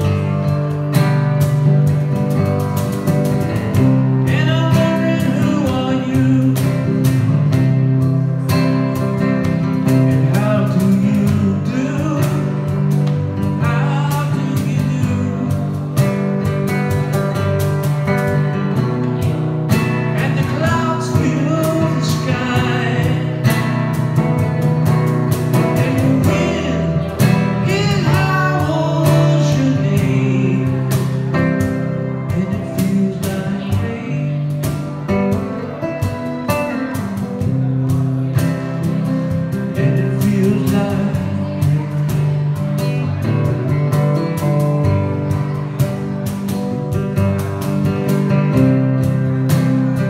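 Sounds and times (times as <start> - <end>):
acoustic guitar strumming: 0.0 - 50.0
man singing: 3.5 - 17.6, 19.7 - 46.4.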